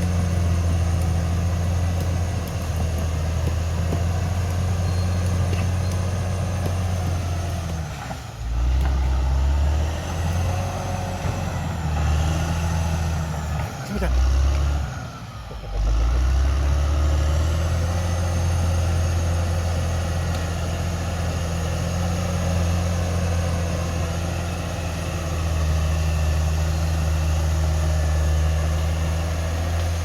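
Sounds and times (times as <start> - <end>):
bulldozer diesel engine drone: 0.0 - 30.0.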